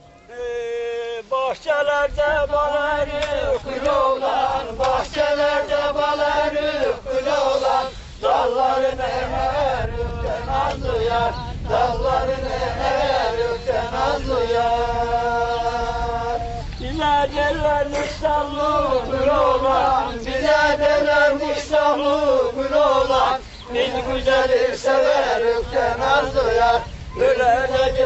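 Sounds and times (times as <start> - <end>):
group singing unaccompanied: 0.2 - 28.0.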